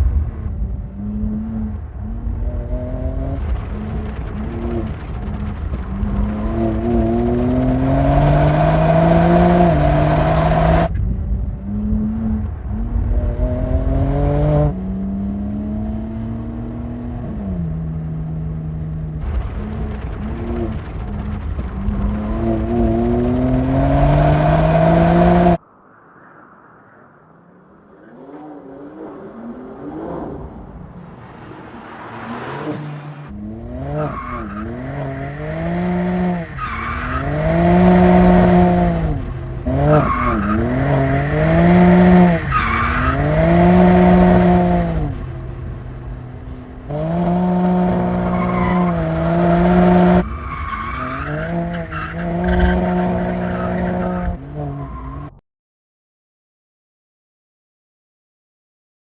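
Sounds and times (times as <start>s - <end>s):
car engine accelerating hard: 0.0s - 25.6s, 28.0s - 54.9s.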